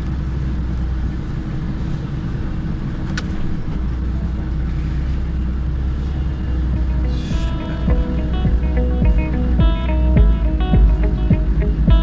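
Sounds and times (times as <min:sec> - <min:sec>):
diesel lorry engine rumbling: 0:00.0 - 0:12.0.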